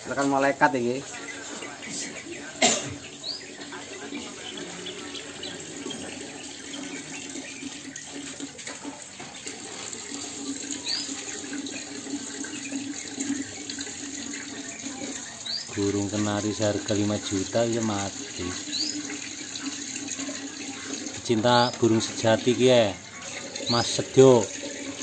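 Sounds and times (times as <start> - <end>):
running tap: 0.0 - 25.0.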